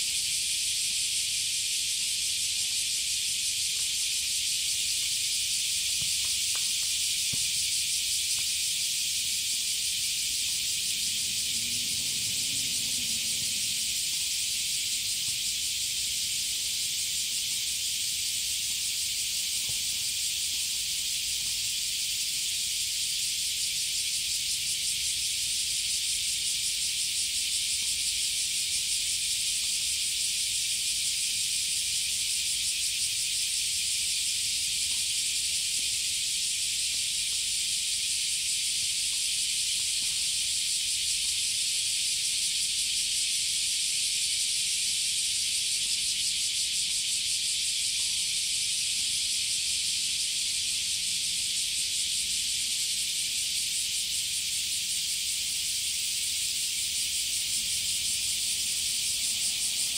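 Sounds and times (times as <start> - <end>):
cicada buzzing: 0.0 - 59.9.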